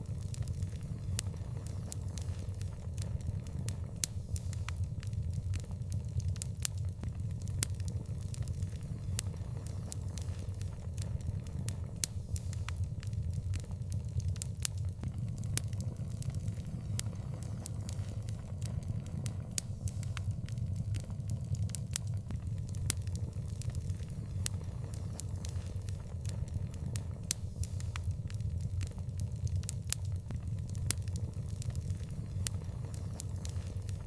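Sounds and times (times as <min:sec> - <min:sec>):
fire crackling and popping: 0:00.0 - 0:34.0
low rumble of fire: 0:00.0 - 0:34.0.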